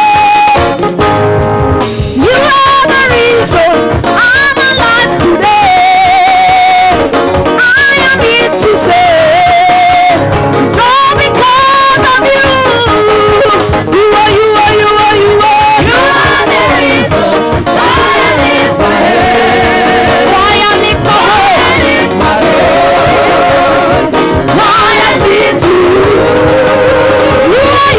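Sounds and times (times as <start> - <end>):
band playing steady beat: 0.0 - 27.9.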